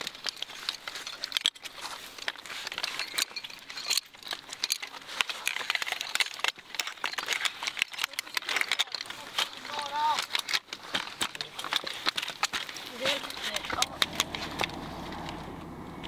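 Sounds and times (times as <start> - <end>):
rifle parts clicking and clattering: 0.0 - 15.4.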